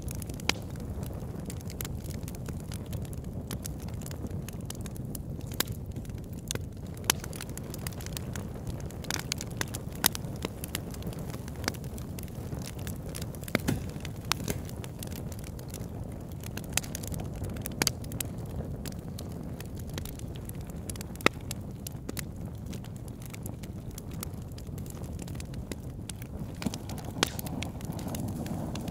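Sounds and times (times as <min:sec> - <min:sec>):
fire popping and snapping: 0:00.0 - 0:28.9
low rumble of flame: 0:00.0 - 0:28.9.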